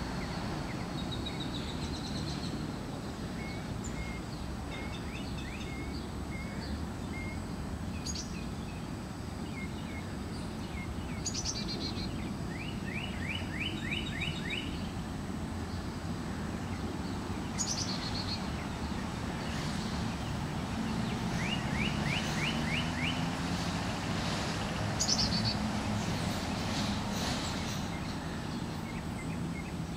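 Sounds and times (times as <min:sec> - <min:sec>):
birds singing: 0:00.0 - 0:29.9
outdoor background rumble: 0:00.0 - 0:29.9.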